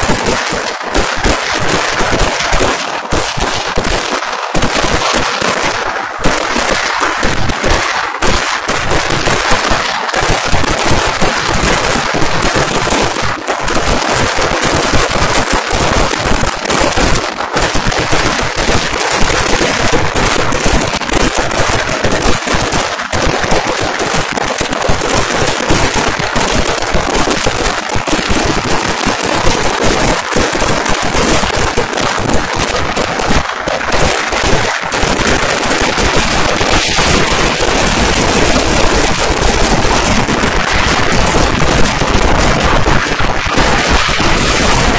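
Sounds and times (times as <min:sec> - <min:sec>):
firecrackers banging rapidly: 0:00.0 - 0:44.9.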